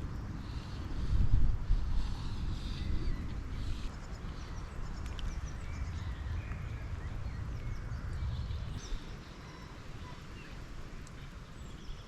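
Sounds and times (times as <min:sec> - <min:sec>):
small birds singing and chirping: 0:00.1 - 0:12.0.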